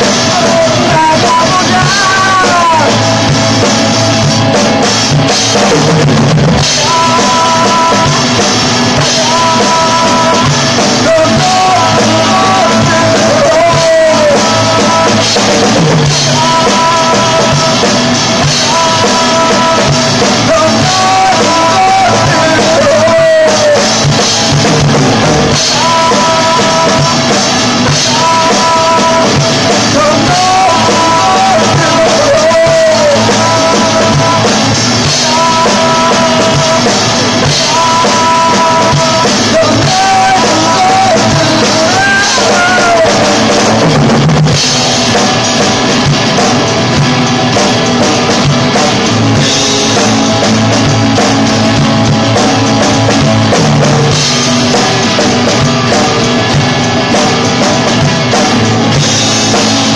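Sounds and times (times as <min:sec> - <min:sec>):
drum kit: 0:00.0 - 0:59.9
person singing: 0:00.0 - 0:59.9.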